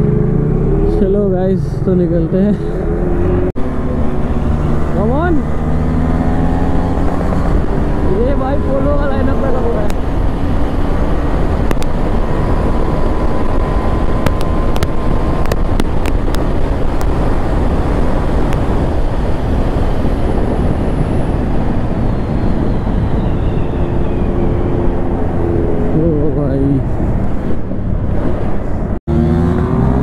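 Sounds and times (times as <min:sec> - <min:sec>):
motorcycle engine: 0:00.0 - 0:30.0
wind rush: 0:02.4 - 0:30.0.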